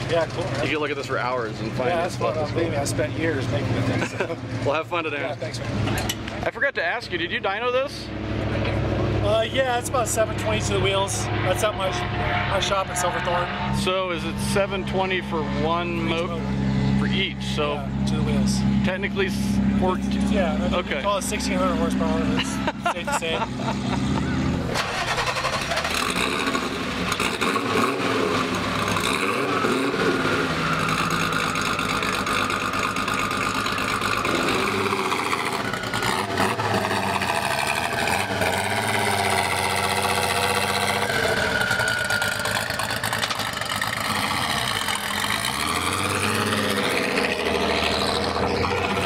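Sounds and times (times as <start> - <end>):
car engine running: 0.0 - 49.0.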